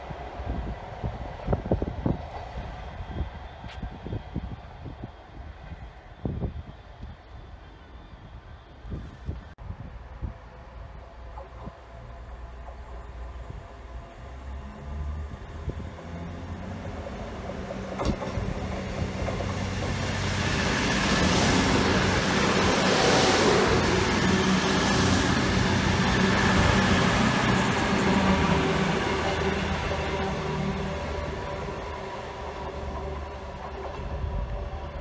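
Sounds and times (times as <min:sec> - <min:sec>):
diesel train passing: 0:00.0 - 0:35.0.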